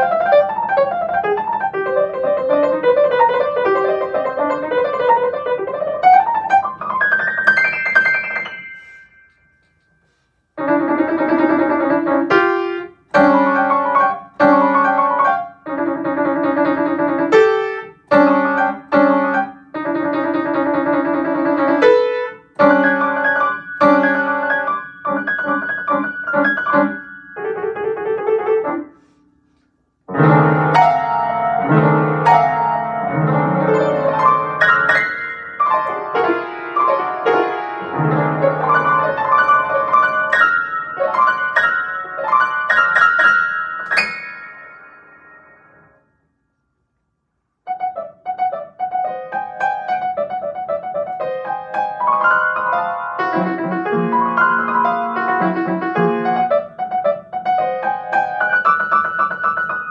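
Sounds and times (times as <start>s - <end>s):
solo piano playing: 0.0s - 29.2s, 30.0s - 46.1s, 47.6s - 59.9s.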